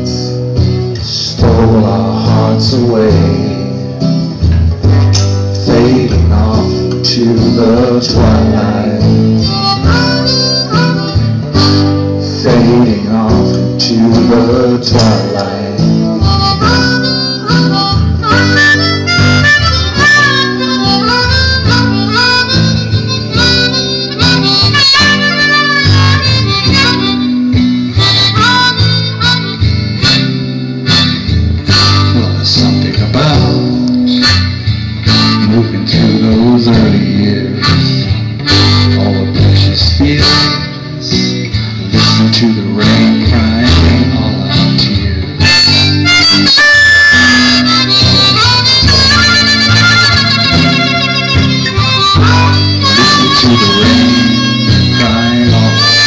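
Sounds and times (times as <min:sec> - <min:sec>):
acoustic guitar accompaniment: 0:00.0 - 0:56.0
harmonica melody: 0:00.0 - 0:56.0.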